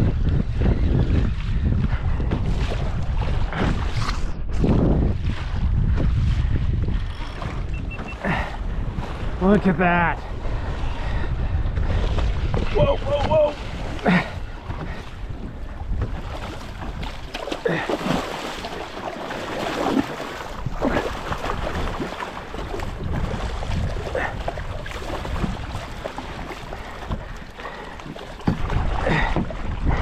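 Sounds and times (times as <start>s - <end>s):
water splashing around kayak: 0.0s - 30.0s
wind on microphone: 0.0s - 30.0s.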